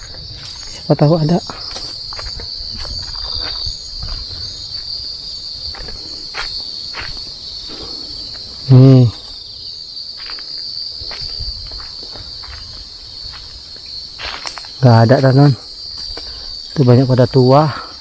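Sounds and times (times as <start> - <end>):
footsteps rustling through undergrowth: 0.0 - 16.8
crickets chirping: 0.0 - 18.0.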